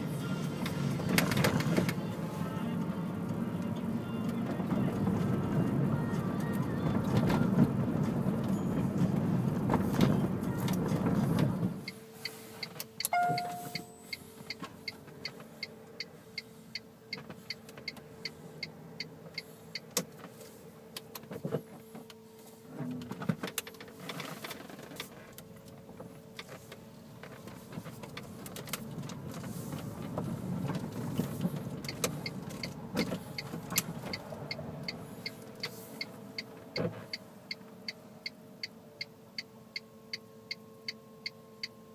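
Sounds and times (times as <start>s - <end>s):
car interior road rush: 0.0s - 40.0s
electric car hum and whine: 0.0s - 41.9s.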